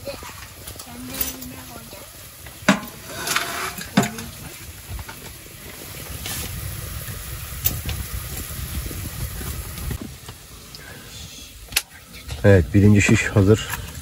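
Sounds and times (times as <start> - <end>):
onions sizzling in a pot: 0.0 - 11.7.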